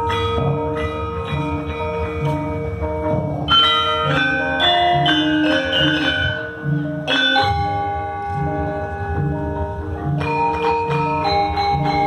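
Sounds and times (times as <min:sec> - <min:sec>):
gamelan ensemble playing: 0:00.0 - 0:12.0.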